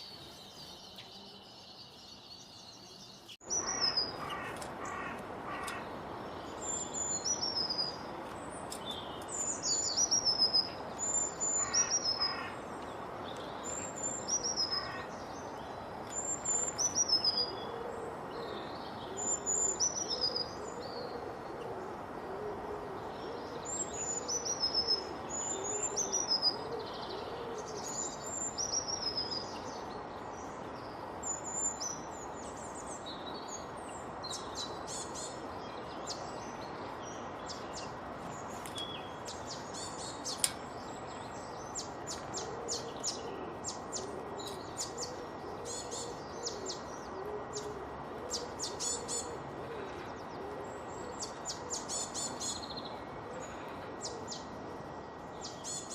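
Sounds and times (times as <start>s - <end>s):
background hiss: 0.0s - 55.9s.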